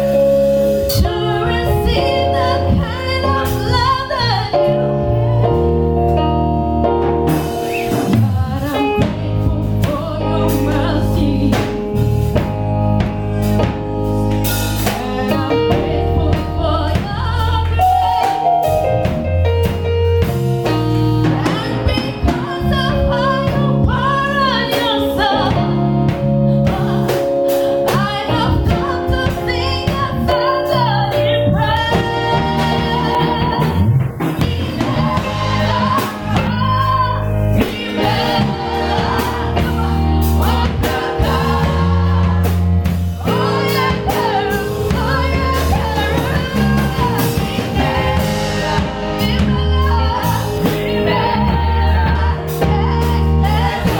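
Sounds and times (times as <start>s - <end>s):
bass notes: 0.0s - 53.9s
choir singing gospel: 0.0s - 53.9s
drums beating: 7.2s - 53.9s.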